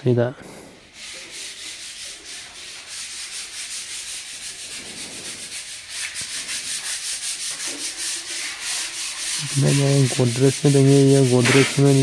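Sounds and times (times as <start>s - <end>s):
sandpaper rasping on a wall: 0.8s - 12.0s.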